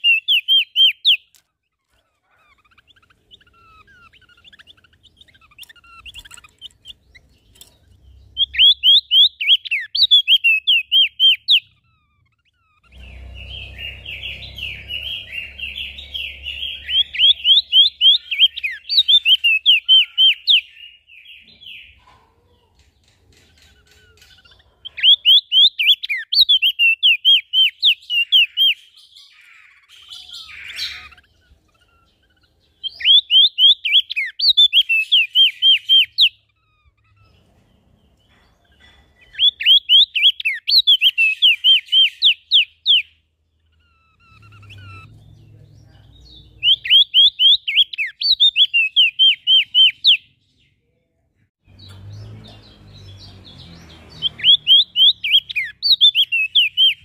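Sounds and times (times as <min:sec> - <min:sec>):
songbird whistling: 0:00.0 - 0:01.3, 0:02.4 - 0:22.0, 0:23.9 - 0:37.5, 0:39.2 - 0:45.1, 0:46.3 - 0:50.3, 0:53.8 - 0:57.0.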